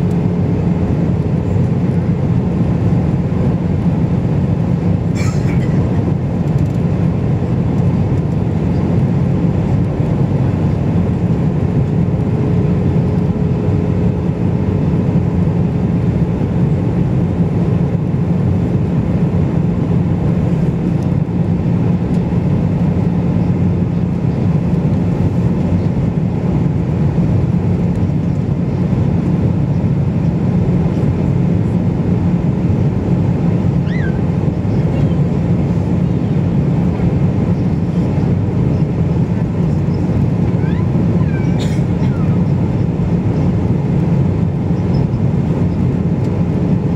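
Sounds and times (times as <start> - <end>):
airliner cabin drone: 0.0 - 46.9.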